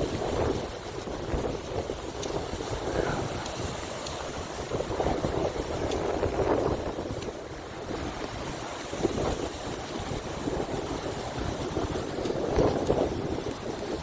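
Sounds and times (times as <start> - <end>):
lake waves surging: 0.0 - 14.0
wind buffeting microphone: 0.0 - 14.0.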